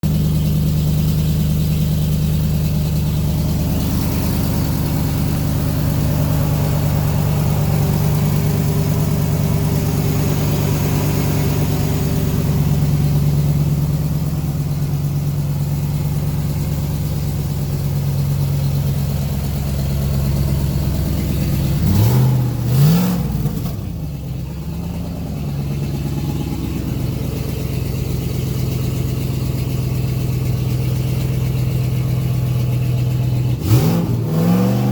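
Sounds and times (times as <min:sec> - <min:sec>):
car engine idling: 0:00.0 - 0:34.9
engine revving: 0:01.8 - 0:17.8, 0:18.7 - 0:34.9.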